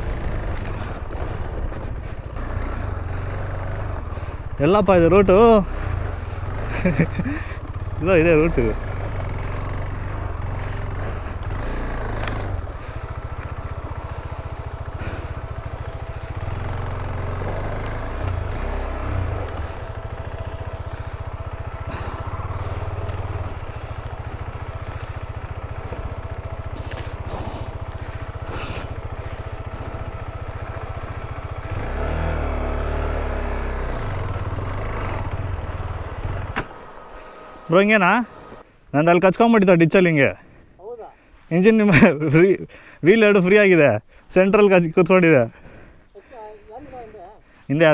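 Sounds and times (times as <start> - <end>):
motorcycle engine at low revs: 0.0 - 40.7, 41.7 - 47.9.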